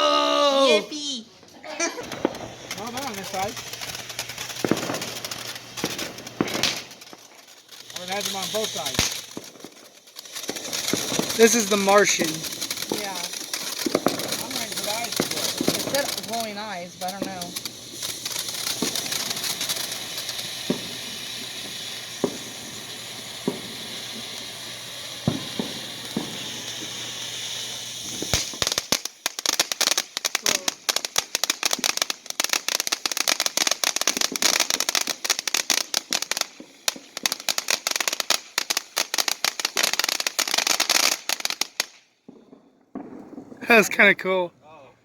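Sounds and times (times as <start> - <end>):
firework hissing and popping: 0.0 - 44.2
firework rapid crackling: 0.0 - 44.4.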